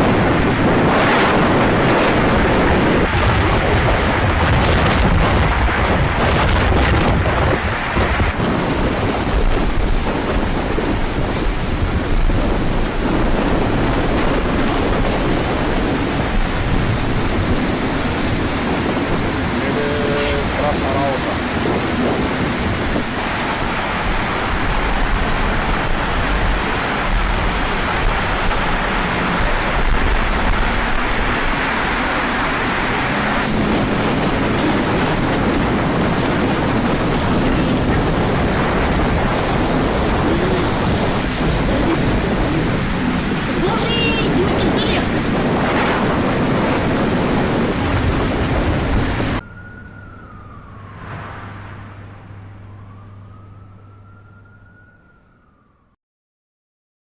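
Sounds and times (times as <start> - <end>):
wind and rain rushing: 0.0 - 55.8
wind rumble on microphone: 0.0 - 55.9
emergency siren tone: 0.0 - 56.0.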